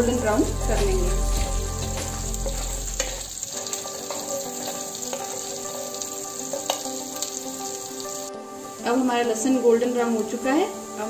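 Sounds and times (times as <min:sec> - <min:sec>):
garlic sizzling in a frying pan: 0:00.0 - 0:11.0.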